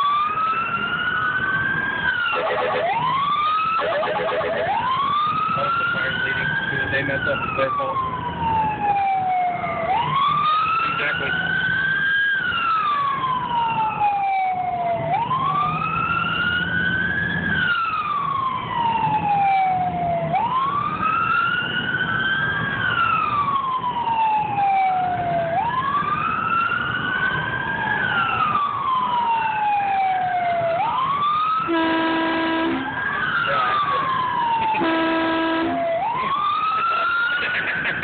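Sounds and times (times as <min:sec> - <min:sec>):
emergency siren wailing: 0:00.0 - 0:38.0
fainter second siren wail: 0:00.0 - 0:38.0.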